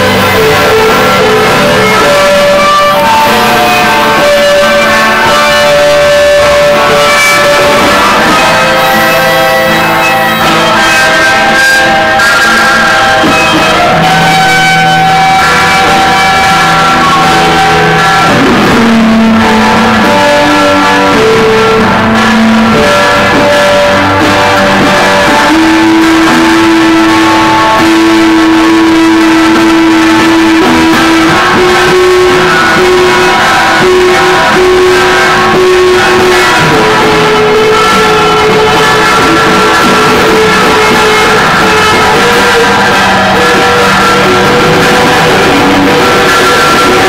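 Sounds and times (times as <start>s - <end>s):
loud amplified guitar music: 0.0s - 47.0s.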